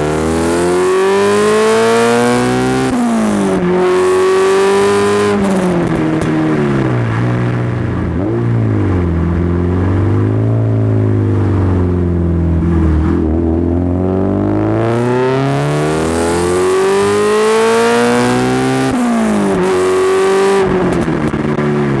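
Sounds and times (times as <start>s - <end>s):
car exhaust revving: 0.0s - 22.0s.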